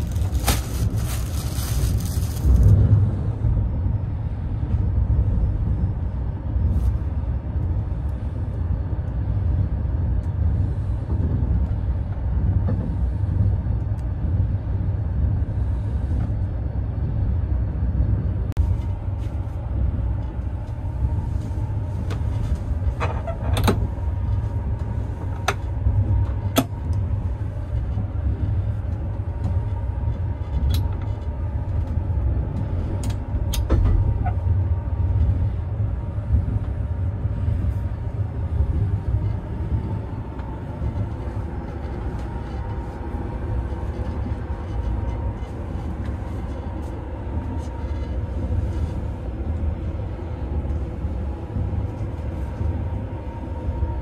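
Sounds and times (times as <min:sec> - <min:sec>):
moving train carriage rumble: 0:00.0 - 0:54.0.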